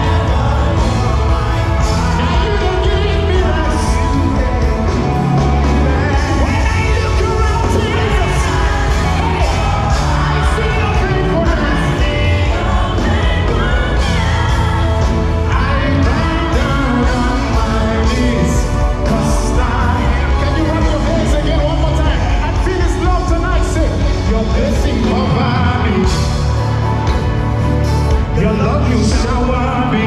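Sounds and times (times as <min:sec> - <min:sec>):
band with drums and electric guitar: 0:00.0 - 0:30.0
singers singing gospel song: 0:00.0 - 0:30.0.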